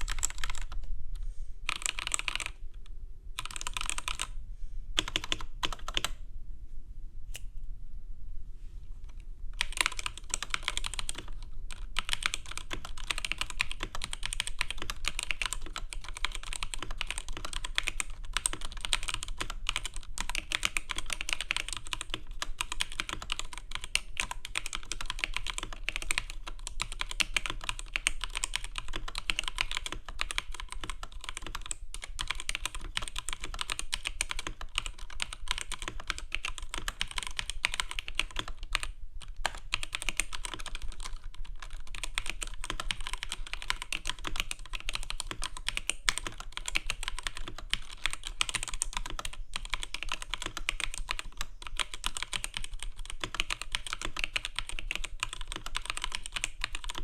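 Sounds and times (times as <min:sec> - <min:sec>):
fast keyboard typing: 0:00.0 - 0:00.8, 0:01.7 - 0:02.6, 0:03.4 - 0:04.3, 0:05.0 - 0:06.2, 0:09.6 - 0:57.0.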